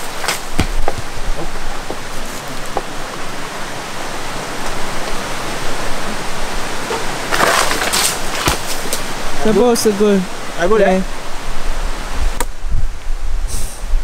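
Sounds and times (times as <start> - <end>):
river rushing over rocks: 0.0 - 12.2.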